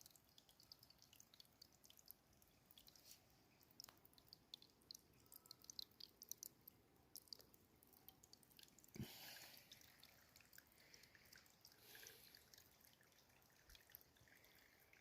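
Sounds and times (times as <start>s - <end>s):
rain dripping on leaves: 0.1s - 14.7s.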